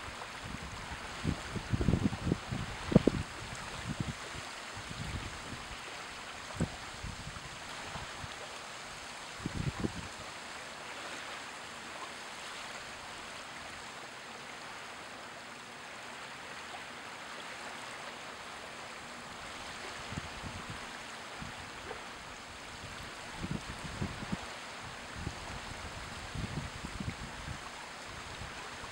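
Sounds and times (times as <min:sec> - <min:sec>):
wavelets lapping on sand: 0:00.0 - 0:28.9.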